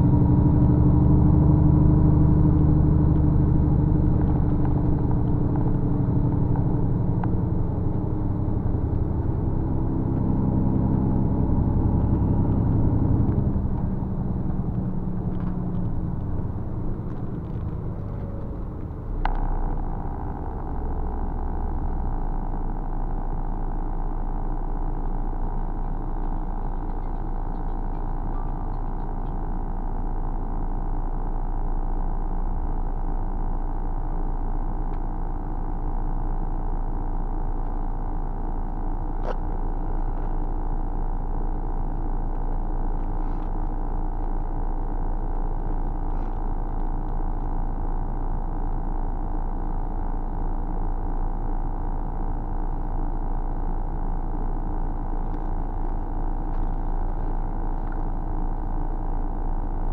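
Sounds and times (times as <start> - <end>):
bus engine hum: 0.0 - 59.9.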